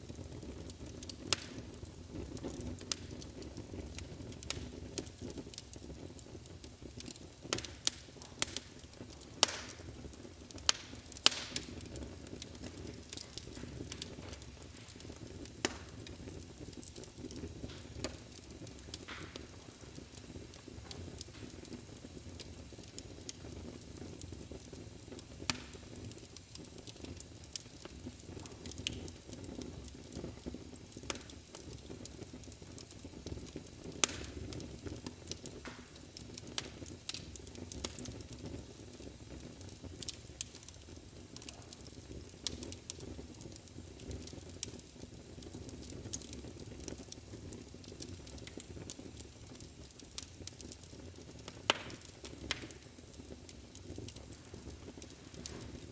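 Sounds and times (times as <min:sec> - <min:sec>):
low rumble of flames: 0:00.0 - 0:55.9
wood fire crackling and popping: 0:00.0 - 0:55.9.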